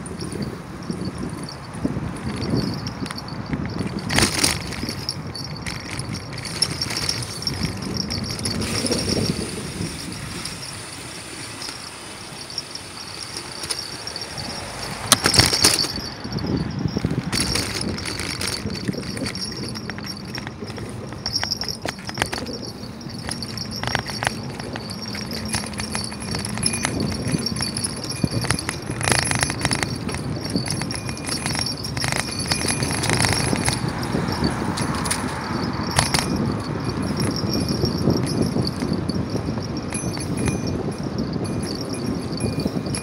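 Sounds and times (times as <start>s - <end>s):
bicycle rattling over road: 0.0s - 43.0s.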